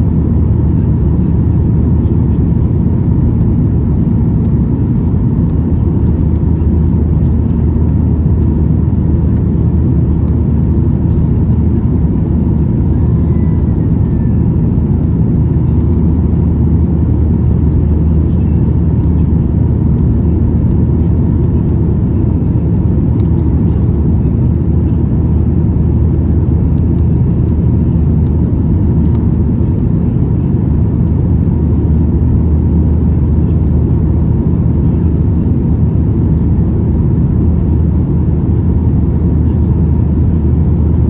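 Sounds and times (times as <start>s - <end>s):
airplane cabin low drone: 0.0s - 41.0s.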